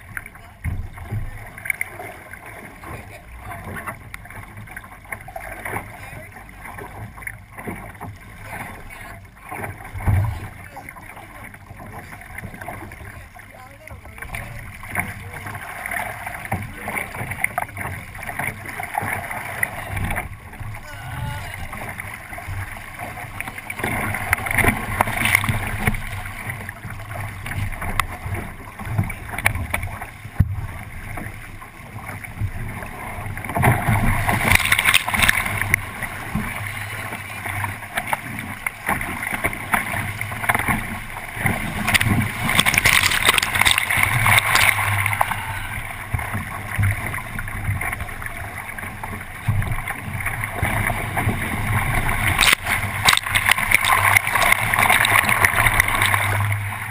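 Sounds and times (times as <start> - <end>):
water rushing along boat hull: 0.0 - 56.9.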